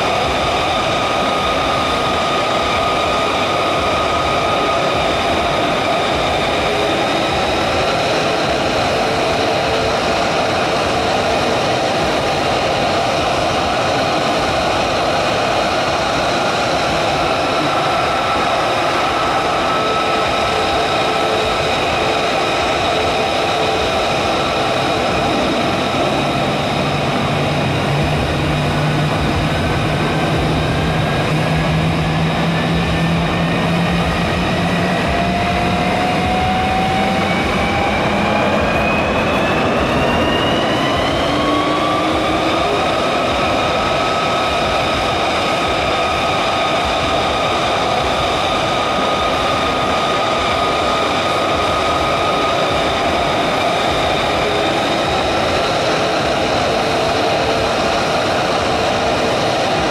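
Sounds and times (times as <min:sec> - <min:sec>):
jet engine whine rising: 0:00.0 - 0:59.9
jet in flight roaring: 0:00.0 - 0:59.9.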